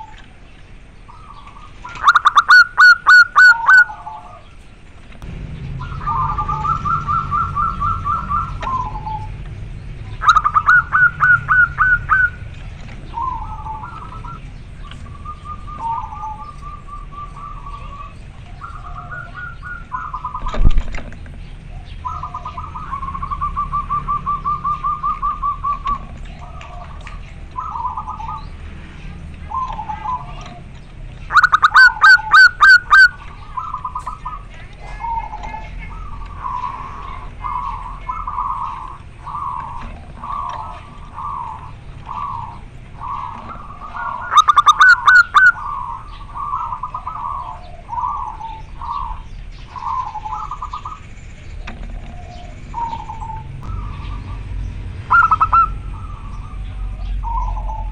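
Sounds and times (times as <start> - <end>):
dove cooing song: 0.0 - 57.9.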